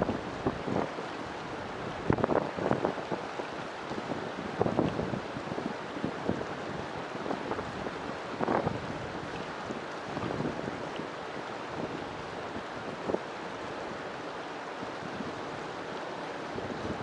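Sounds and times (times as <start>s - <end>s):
river water rushing: 0.0s - 17.0s
water splashes and gurgles: 0.0s - 17.0s.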